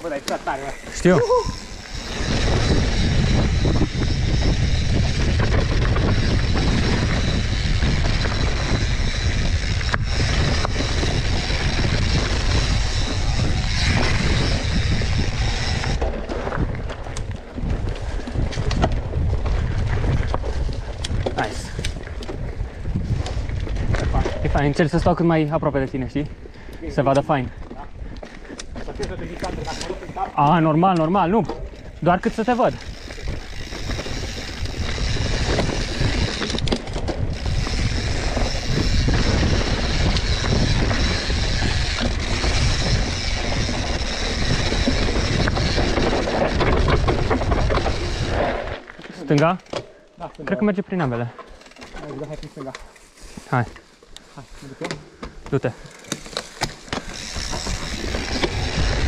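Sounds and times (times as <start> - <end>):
bike rattling over rocks: 0.0 - 26.1, 26.9 - 54.0, 54.8 - 59.0
wind buffeting microphone: 0.0 - 49.7, 55.1 - 59.0
bike tyres rolling: 0.0 - 59.0.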